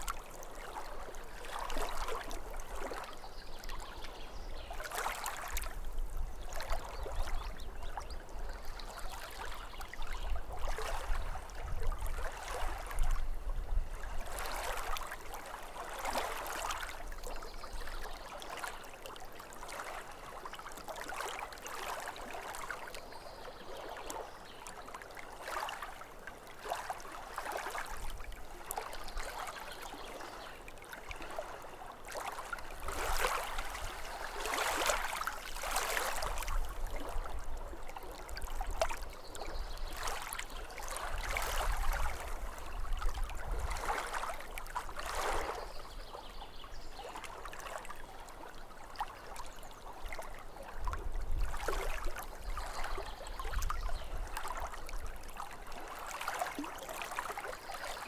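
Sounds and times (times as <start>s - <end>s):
small waves lapping shore: 0.0s - 58.0s.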